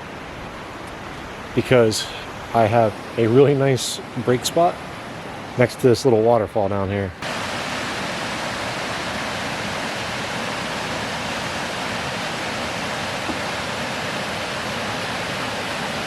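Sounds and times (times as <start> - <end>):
waterfall rushing: 0.0 - 5.8, 7.2 - 16.0.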